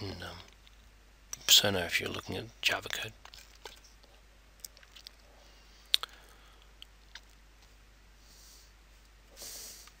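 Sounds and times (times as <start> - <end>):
soft hiss: 0.0 - 10.0.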